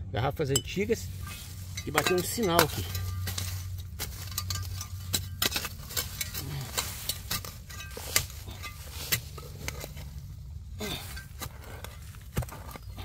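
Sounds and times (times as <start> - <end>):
shovel chopping and scraping soil: 0.5 - 13.0.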